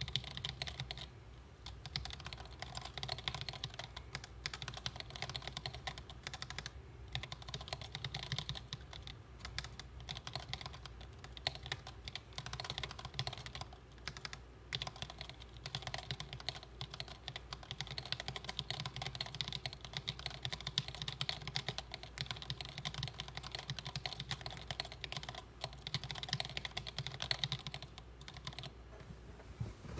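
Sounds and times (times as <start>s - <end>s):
mechanical keyboard typing: 0.0s - 28.7s.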